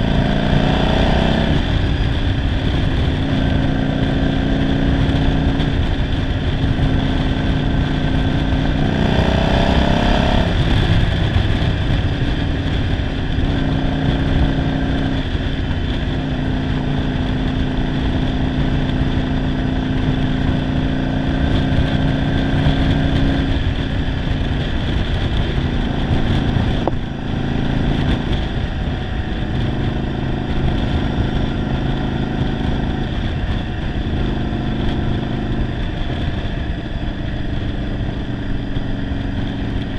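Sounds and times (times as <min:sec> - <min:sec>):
motorcycle engine at road speed: 0:00.0 - 0:39.9
wind rushing over microphone: 0:00.0 - 0:39.9.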